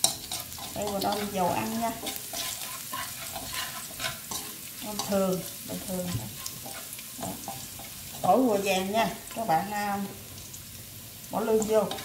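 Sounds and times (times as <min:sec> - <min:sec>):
chopsticks scraping a wok: 0:00.0 - 0:10.6, 0:11.5 - 0:12.0
garlic sizzling in oil: 0:00.0 - 0:12.0.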